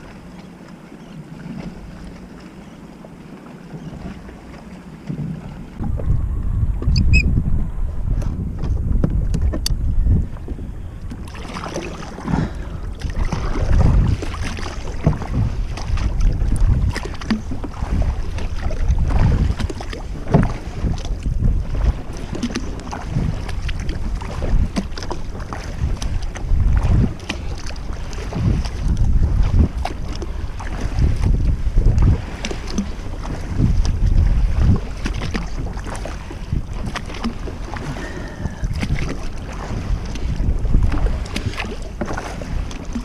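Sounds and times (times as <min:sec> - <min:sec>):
water slapping kayak hull: 0:00.0 - 0:43.0
wind buffeting microphone: 0:05.0 - 0:43.0.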